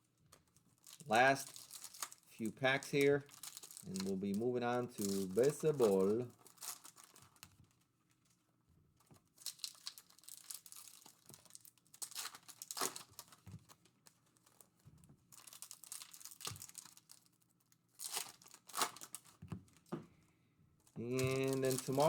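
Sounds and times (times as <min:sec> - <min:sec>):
foil wrappers tearing and crinkling: 0:00.4 - 0:07.8, 0:09.2 - 0:19.8, 0:21.0 - 0:22.0.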